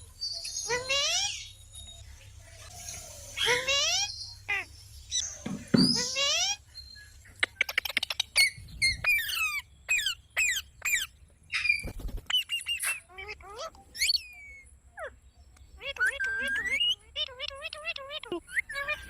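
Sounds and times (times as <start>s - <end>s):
parrot chirping and squawking: 0.5s - 1.5s, 3.2s - 6.6s, 7.4s - 15.2s, 15.8s - 19.0s.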